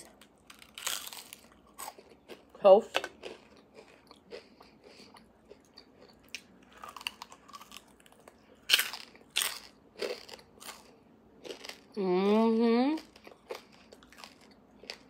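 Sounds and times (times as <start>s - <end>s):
close-miked chewing: 0.0s - 11.9s, 13.0s - 15.0s.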